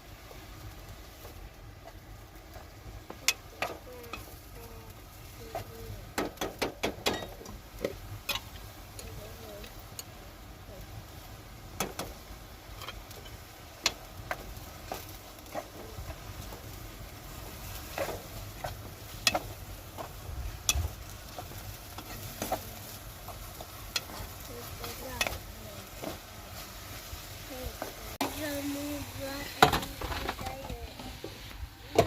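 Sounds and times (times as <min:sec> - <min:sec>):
low steady hiss: 0:00.0 - 0:32.0.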